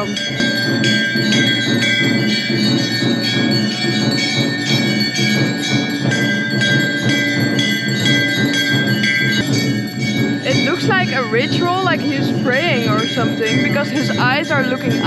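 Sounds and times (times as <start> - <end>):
bells ringing: 0.0 - 15.0
pulsing percussion beat: 0.0 - 15.0.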